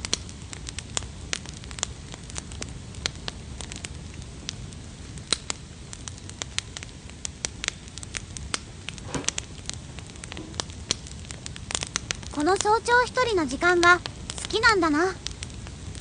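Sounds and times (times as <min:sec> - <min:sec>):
campfire crackling and popping: 0:00.0 - 0:16.0
low rush of burning: 0:00.0 - 0:16.0.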